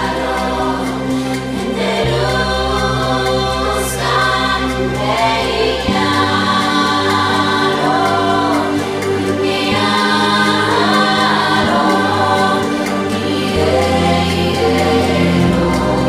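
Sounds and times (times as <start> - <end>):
choir singing in harmony: 0.0 - 16.0
steady low bass: 0.0 - 16.0.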